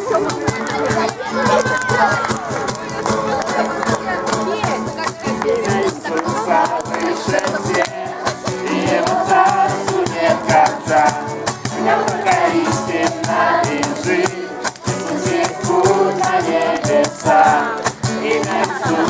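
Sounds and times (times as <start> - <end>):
voices singing: 0.0 - 19.0.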